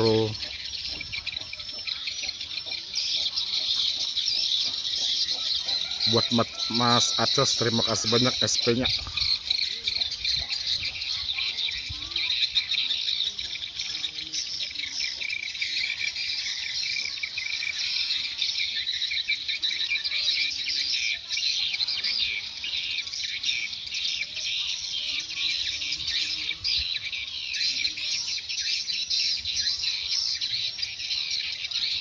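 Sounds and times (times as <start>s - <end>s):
swiftlets chirping and twittering: 0.0s - 32.0s.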